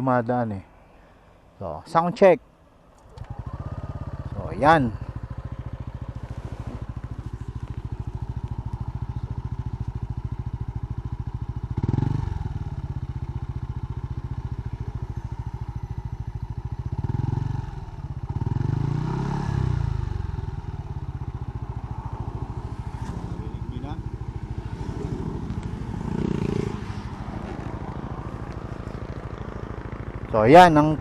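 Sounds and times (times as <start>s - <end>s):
scooter engine idling: 2.4s - 31.0s
scooter throttle blips: 2.8s - 30.8s.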